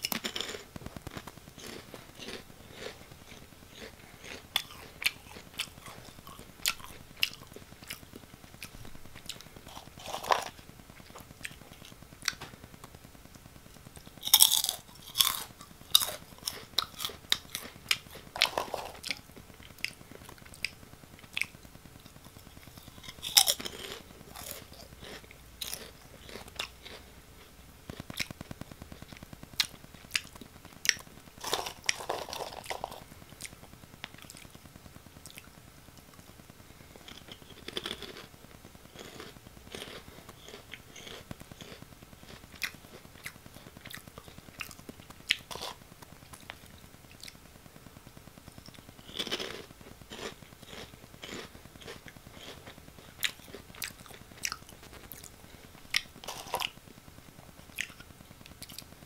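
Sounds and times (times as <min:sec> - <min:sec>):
crunchy snacks being chewed: 0:00.0 - 0:13.0, 0:13.7 - 0:34.6, 0:36.9 - 0:47.4, 0:48.5 - 0:56.8, 0:57.7 - 0:59.0.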